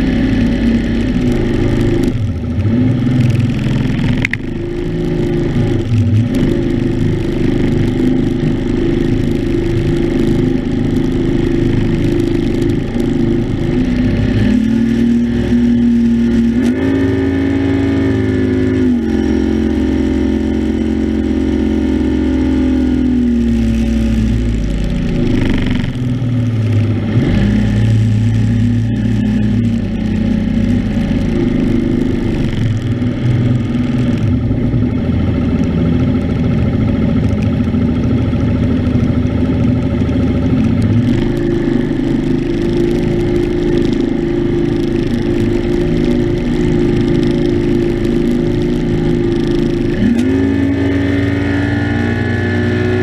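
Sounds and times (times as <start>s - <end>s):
outboard motor at speed: 0.0s - 53.0s
wind: 0.0s - 53.0s.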